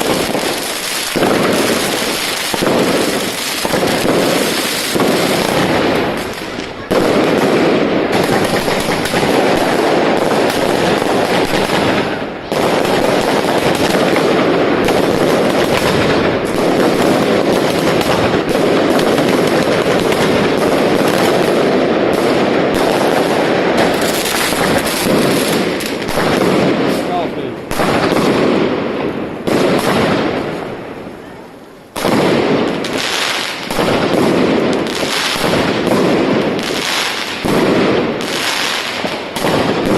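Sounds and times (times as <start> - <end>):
rapid firework bangs: 0.0 - 39.9.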